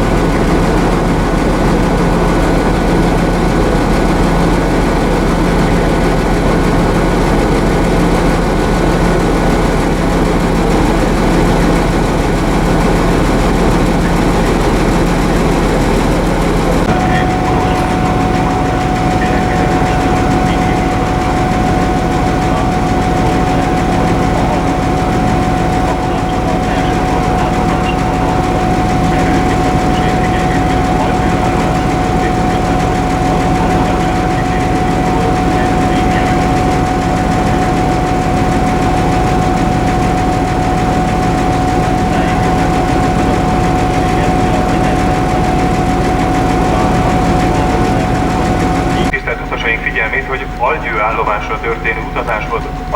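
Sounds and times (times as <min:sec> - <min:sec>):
locomotive high whine: 0:00.0 - 0:52.9
locomotive low hum: 0:00.0 - 0:52.9.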